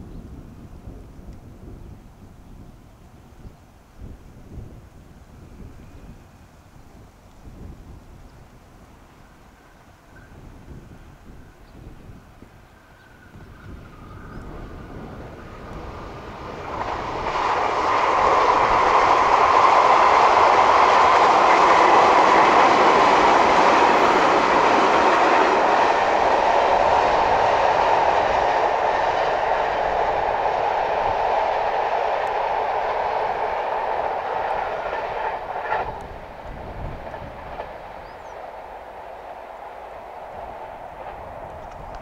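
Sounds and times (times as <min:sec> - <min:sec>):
electric train running past: 0:00.6 - 0:42.0.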